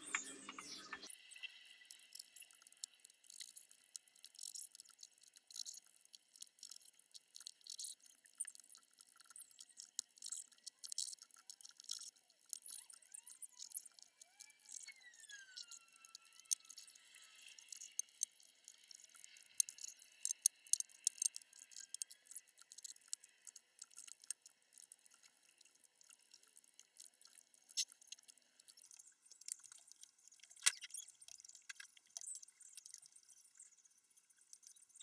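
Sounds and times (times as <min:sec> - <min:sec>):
sharp clicks and ticks: 0:00.0 - 0:33.6, 0:34.4 - 0:35.0.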